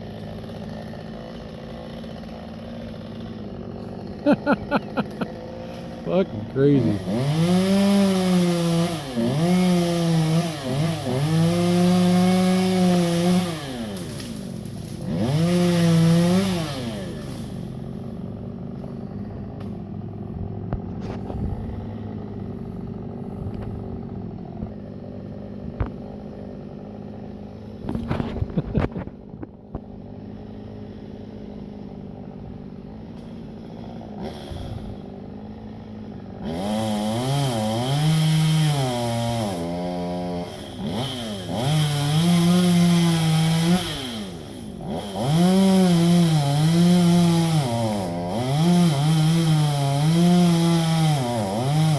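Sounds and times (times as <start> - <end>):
chainsaw revving and idling: 0.0 - 51.9.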